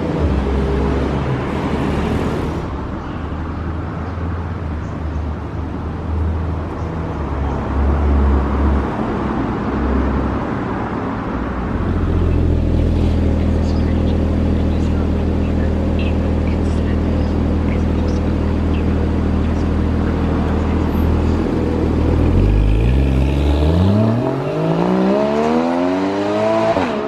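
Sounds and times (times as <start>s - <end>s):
car engine rumble: 0.0s - 27.0s
road noise: 0.0s - 27.0s.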